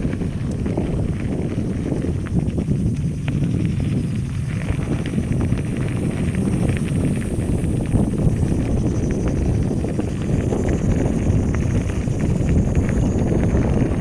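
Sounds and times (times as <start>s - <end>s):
bicycle clicks and rattles: 0.0s - 14.0s
bicycle tyres rumbling: 0.0s - 14.0s
wind on microphone: 0.0s - 14.0s.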